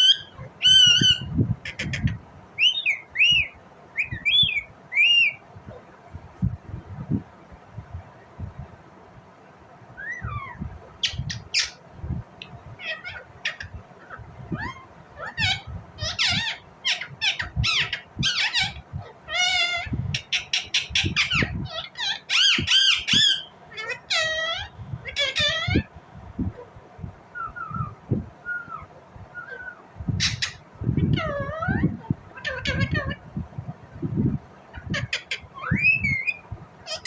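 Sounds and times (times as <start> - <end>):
parakeet chirping and squawking: 0.0 - 5.4, 10.0 - 26.0, 27.4 - 33.3, 34.6 - 37.0.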